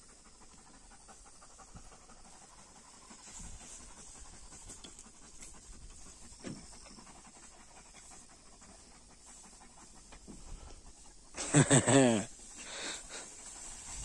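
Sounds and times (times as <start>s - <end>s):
dog panting fast: 0.0s - 14.0s.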